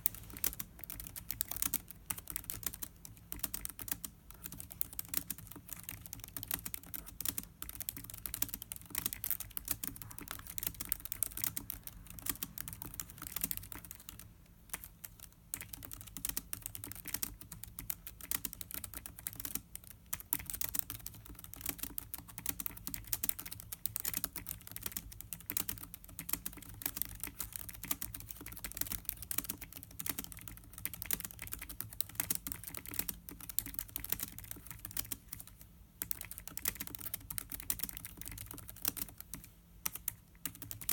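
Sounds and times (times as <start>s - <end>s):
fast typing on laptop keyboard: 0.0s - 40.9s.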